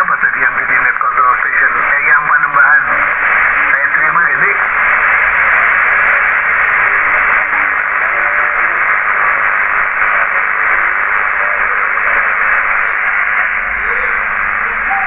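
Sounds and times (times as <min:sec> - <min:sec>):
faint wavering weak signals: 0:00.0 - 0:15.0
radio receiver hiss: 0:00.0 - 0:15.0.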